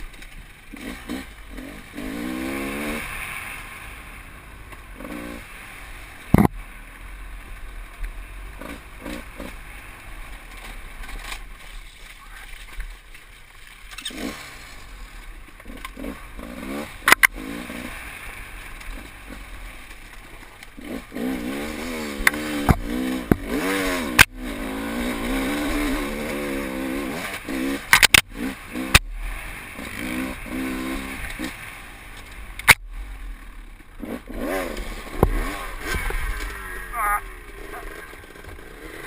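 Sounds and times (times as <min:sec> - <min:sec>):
motorcycle engine revving: 0:00.0 - 0:13.1, 0:13.8 - 0:39.0.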